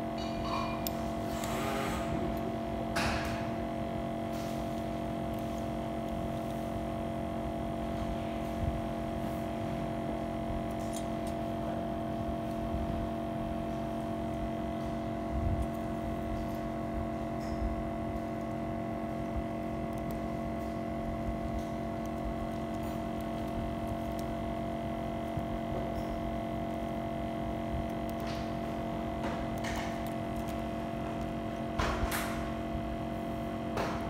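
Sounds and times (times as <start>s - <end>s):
electrical hum of equipment: 0.0s - 34.0s.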